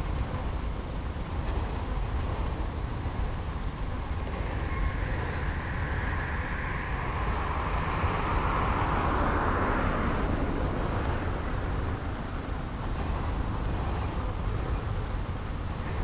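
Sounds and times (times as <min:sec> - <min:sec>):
rushing rail noise: 0:00.0 - 0:16.0
freight train rumbling past: 0:01.6 - 0:16.0.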